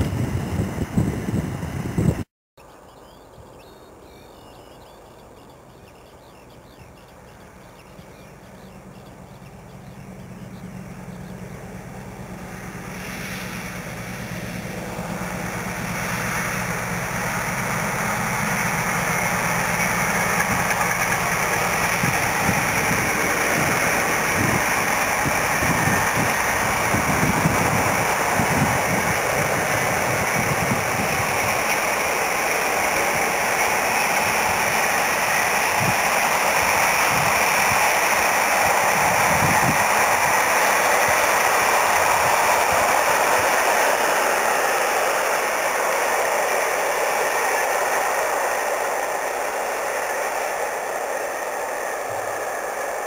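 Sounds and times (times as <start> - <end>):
diesel locomotive engine running: 0.0 - 53.0
wagons rumbling and hissing on rails: 0.0 - 53.0.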